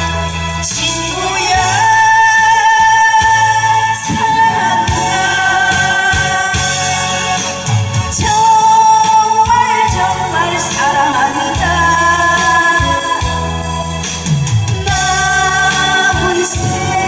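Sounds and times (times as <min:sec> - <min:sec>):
instrumental accompaniment: 0:00.0 - 0:17.0
pulsing bass line: 0:00.0 - 0:17.0
woman singing into microphone: 0:00.0 - 0:17.0.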